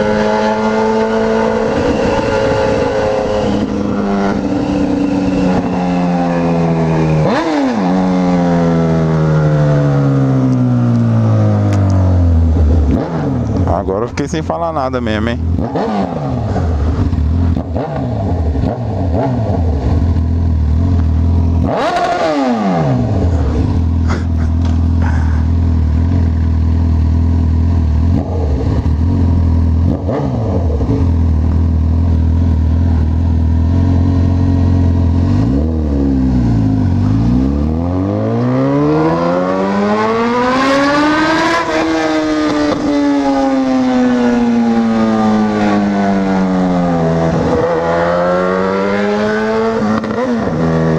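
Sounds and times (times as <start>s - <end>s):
motorcycle engine running: 0.0s - 14.4s, 15.3s - 22.2s, 22.8s - 48.6s.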